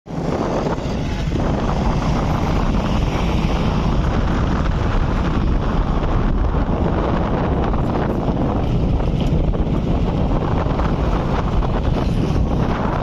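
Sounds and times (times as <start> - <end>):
heavy vehicle engine: 0.1 - 13.0
wind buffeting microphone: 0.1 - 13.0.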